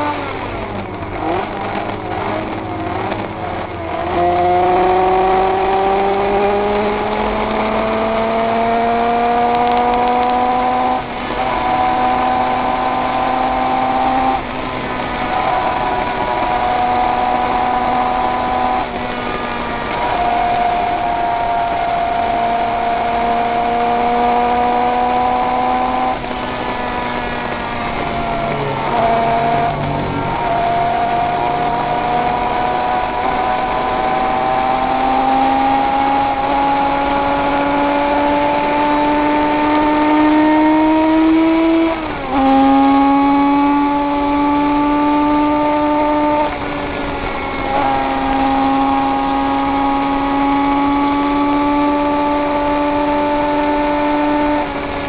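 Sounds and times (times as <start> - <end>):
racing motorcycle engine running hard: 0.0 - 55.0.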